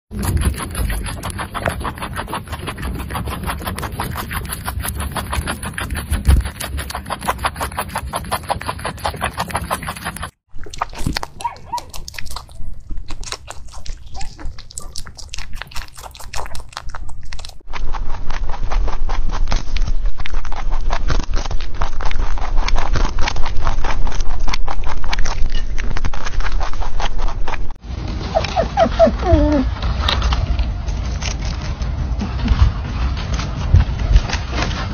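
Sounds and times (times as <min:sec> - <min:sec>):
rabbits crunching vegetables: 0:00.1 - 0:34.9.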